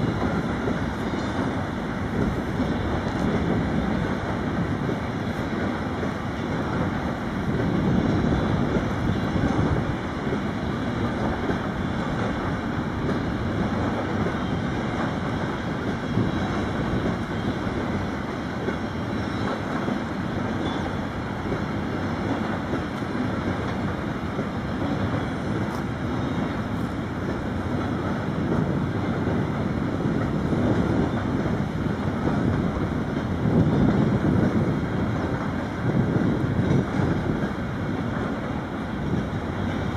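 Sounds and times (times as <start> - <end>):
wind blowing across microphone: 0.0 - 39.9.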